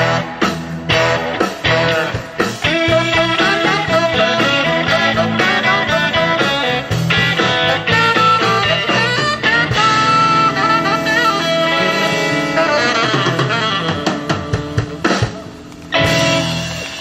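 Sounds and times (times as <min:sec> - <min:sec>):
band playing instrumental music: 0:00.0 - 0:17.0
drums: 0:00.0 - 0:17.0.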